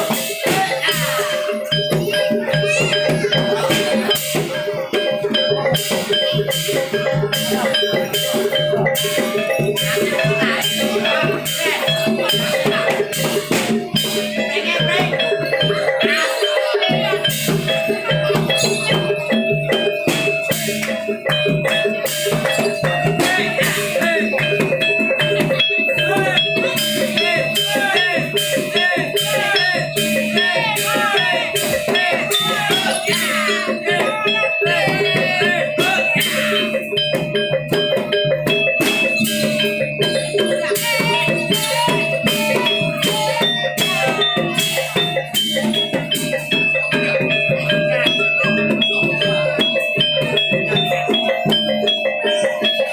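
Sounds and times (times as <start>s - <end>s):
drum strokes: 0.0s - 52.9s
metallophone and gong-chime tones: 0.0s - 52.9s.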